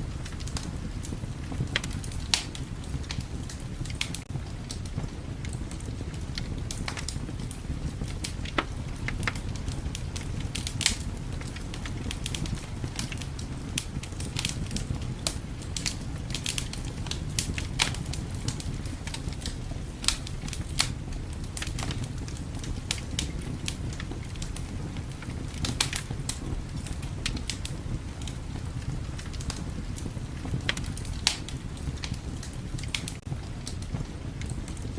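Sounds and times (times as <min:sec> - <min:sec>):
low rumble of wind: 0:00.0 - 0:34.9
wood fire crackling: 0:00.0 - 0:34.9.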